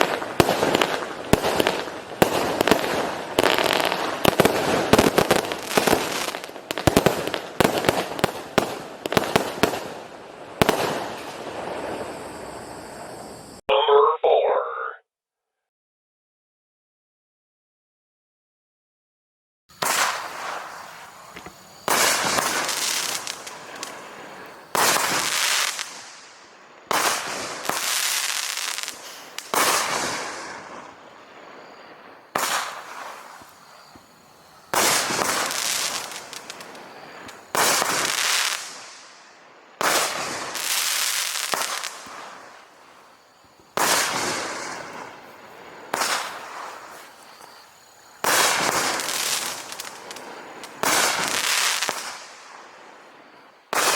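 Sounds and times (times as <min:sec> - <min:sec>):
fireworks bangs: 0:00.0 - 0:13.2, 0:19.7 - 0:53.9.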